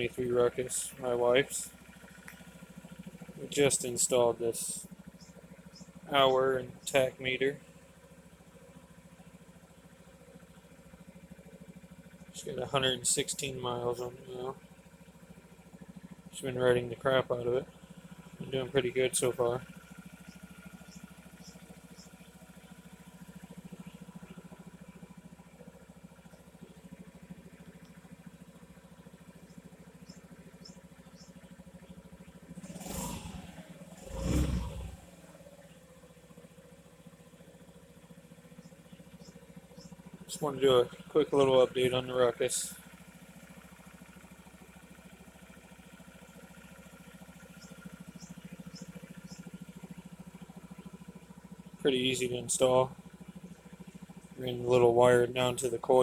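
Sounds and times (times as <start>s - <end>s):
scooter engine idling: 0.0s - 56.0s.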